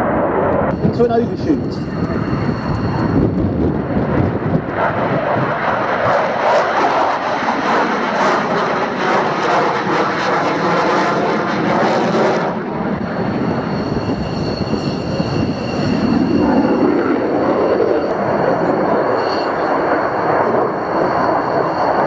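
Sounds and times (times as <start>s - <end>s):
high jet whine: 0.0s - 22.0s
jet engine roar: 0.0s - 22.0s.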